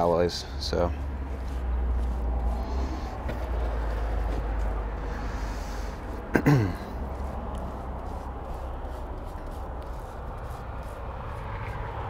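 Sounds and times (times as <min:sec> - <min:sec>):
mortar smeared by hand: 0:00.7 - 0:12.0.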